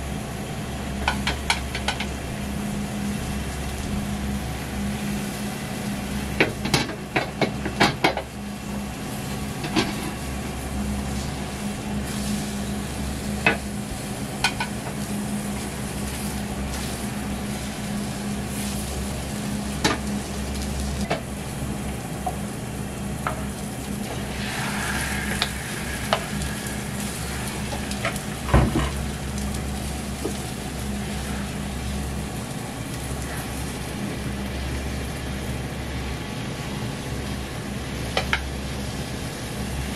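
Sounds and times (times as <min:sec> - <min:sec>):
steady low hum: 0:00.0 - 0:39.9
egg sizzling in a pan: 0:00.8 - 0:35.1.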